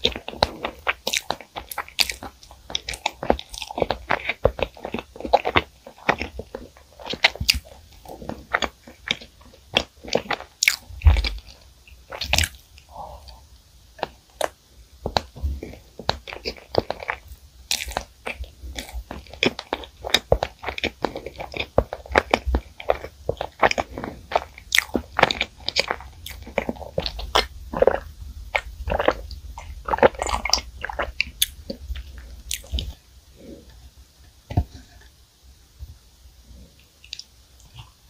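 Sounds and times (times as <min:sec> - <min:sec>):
chewing crunchy pastry: 0:00.0 - 0:33.8, 0:36.8 - 0:38.0.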